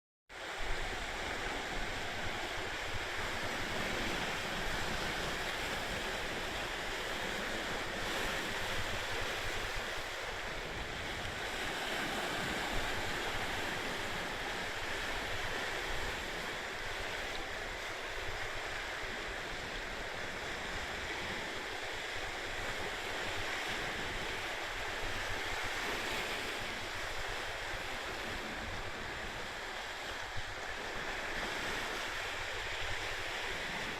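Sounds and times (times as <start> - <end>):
sea waves washing: 0.4 - 33.9
wind buffeting microphone: 0.4 - 33.9.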